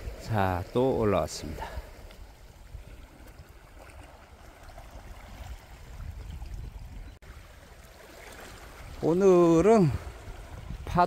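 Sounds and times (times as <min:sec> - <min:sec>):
water lapping against rocks: 0:00.0 - 0:10.8.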